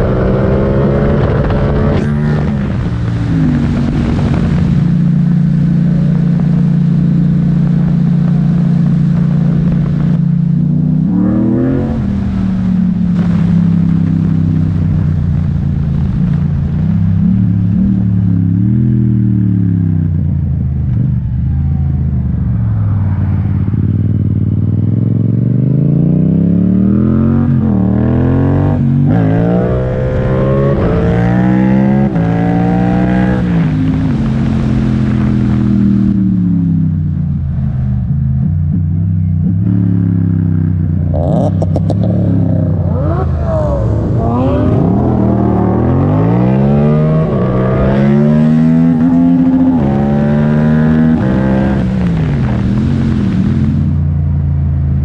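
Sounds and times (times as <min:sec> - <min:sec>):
motorcycle engine accelerating hard: 0:00.0 - 0:55.0.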